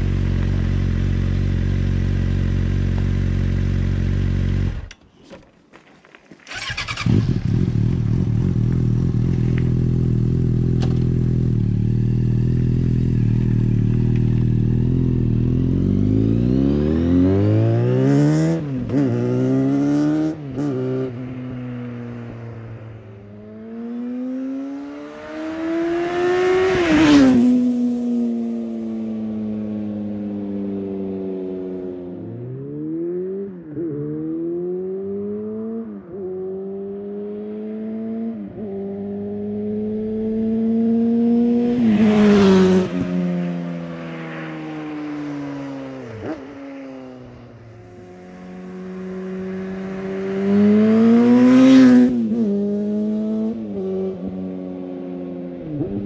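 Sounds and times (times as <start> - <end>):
motorcycle engine revving: 0.0 - 5.0, 6.5 - 22.2, 23.3 - 29.8, 30.5 - 44.4, 47.7 - 56.0
motorcycle passing by fast: 6.5 - 56.0.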